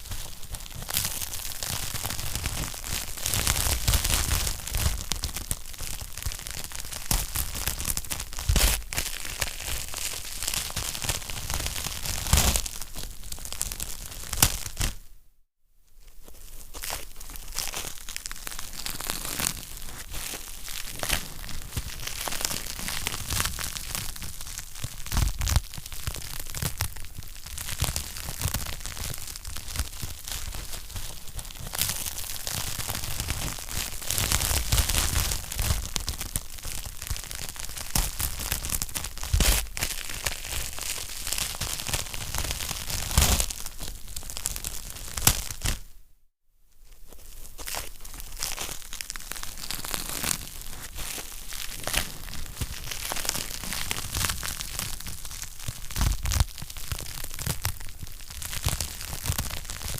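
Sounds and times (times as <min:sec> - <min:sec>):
wood fire crackling and popping: 0:00.0 - 0:15.0, 0:17.6 - 0:45.8, 0:48.4 - 0:59.9.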